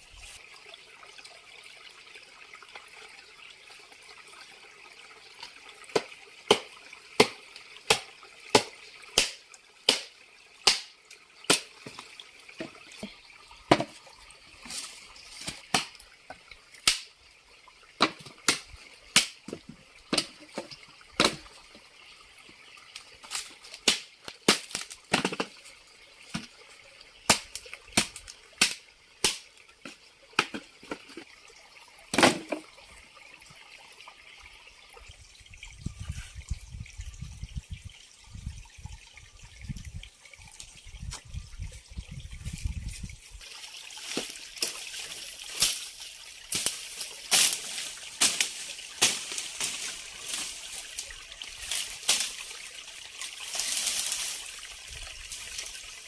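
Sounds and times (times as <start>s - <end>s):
running water hiss: 0.0s - 56.0s.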